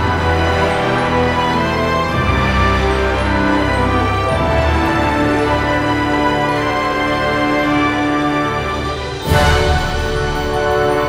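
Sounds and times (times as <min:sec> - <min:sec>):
orchestral film score: 0:00.0 - 0:11.0.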